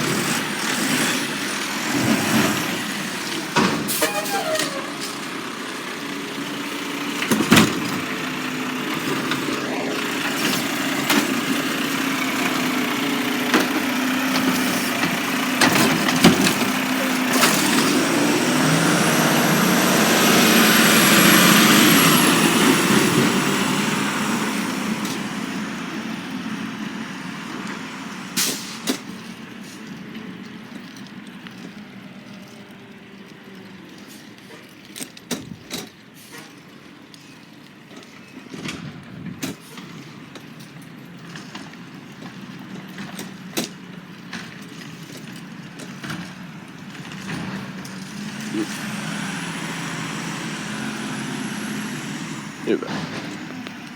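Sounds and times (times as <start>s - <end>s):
garbage truck running: 0.0s - 53.9s.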